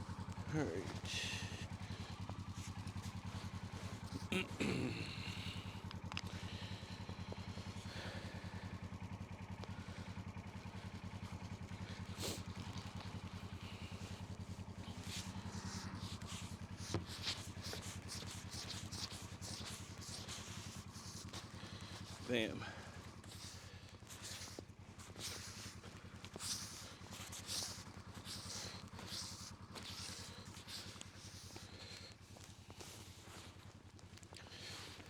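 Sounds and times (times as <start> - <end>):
motor humming: 0.0 - 35.0.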